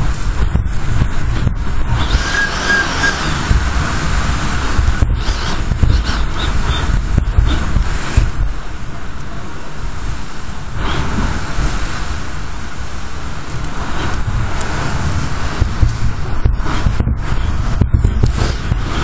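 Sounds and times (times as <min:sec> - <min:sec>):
heavy rain hissing: 0:00.0 - 0:19.0
wind buffeting microphone: 0:00.0 - 0:19.0.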